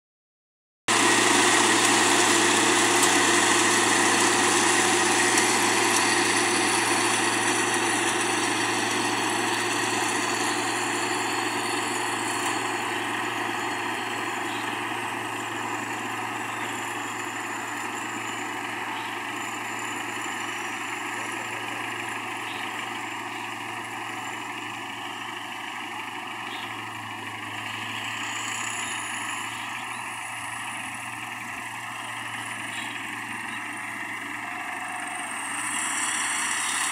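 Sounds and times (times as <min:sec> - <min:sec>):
combine harvester machinery humming: 0:00.9 - 0:36.9.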